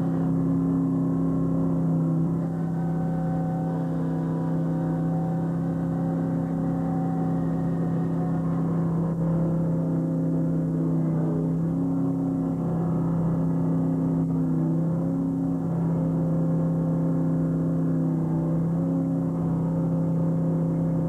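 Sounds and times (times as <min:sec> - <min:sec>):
boat diesel engine drone: 0:00.0 - 0:21.0.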